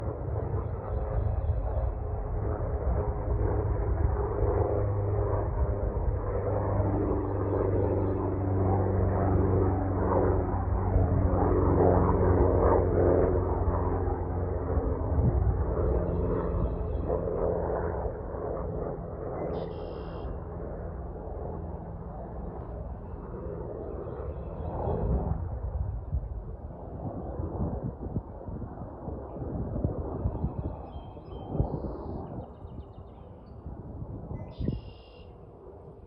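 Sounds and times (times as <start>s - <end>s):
propeller airplane engine droning: 0.0s - 36.0s.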